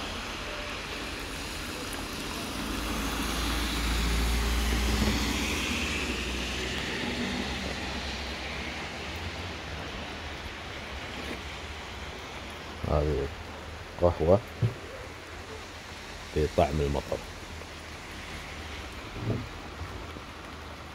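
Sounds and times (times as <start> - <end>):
rain patter: 0.0 - 20.9
vehicle passing on wet road: 0.0 - 20.9.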